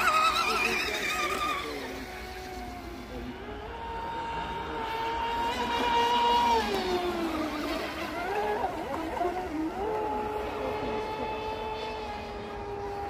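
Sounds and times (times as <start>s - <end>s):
rc boat motor running: 0.0s - 13.0s.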